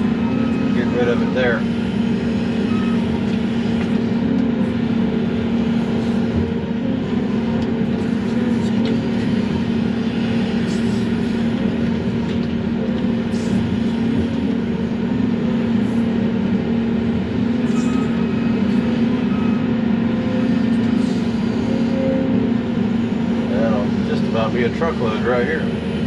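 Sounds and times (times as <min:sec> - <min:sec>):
excavator diesel engine and hydraulics: 0:00.0 - 0:26.0.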